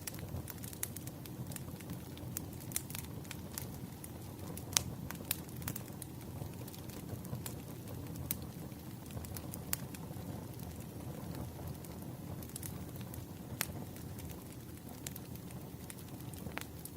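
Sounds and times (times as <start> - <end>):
wood fire crackling and popping: 0.0 - 16.9.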